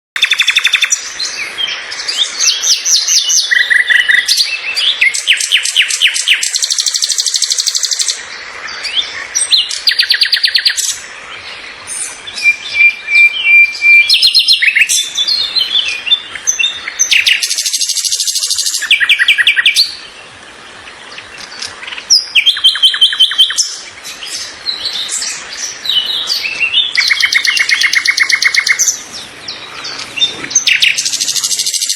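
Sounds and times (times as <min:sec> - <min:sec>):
songbirds singing: 0:00.2 - 0:31.9.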